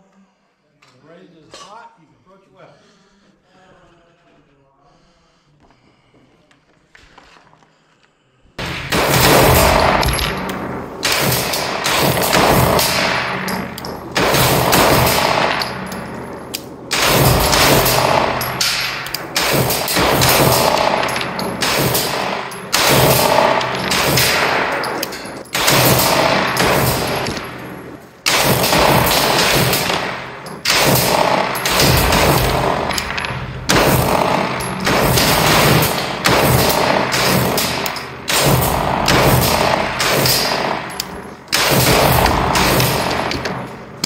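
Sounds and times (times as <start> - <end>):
gunshots with ringing tail: 8.6 - 44.0.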